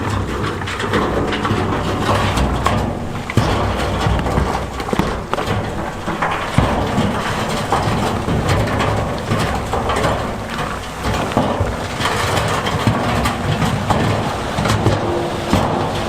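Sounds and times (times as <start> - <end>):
heavy diesel machinery running: 0.0 - 16.0
stone crunching and scraping: 0.0 - 16.0.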